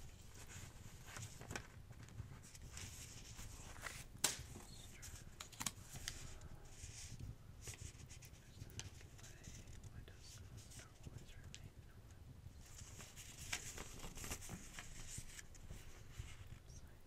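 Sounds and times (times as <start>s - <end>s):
paper rustling: 0.0s - 11.5s, 12.6s - 16.6s.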